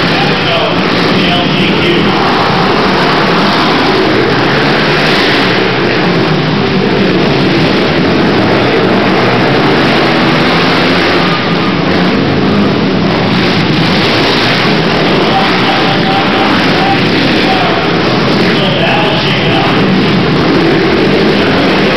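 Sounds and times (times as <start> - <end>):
quad engines revving: 0.0 - 21.9.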